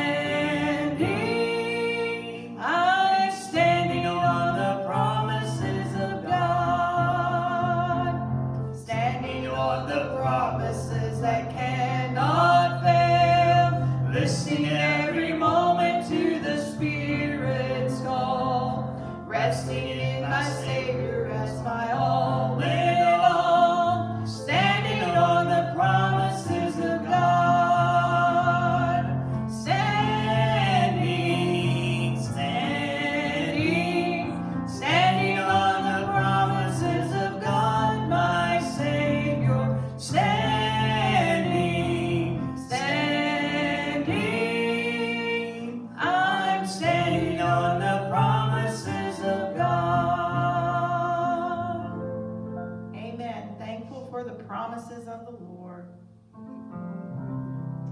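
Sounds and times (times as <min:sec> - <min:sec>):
person singing worship song: 0:00.0 - 0:52.1.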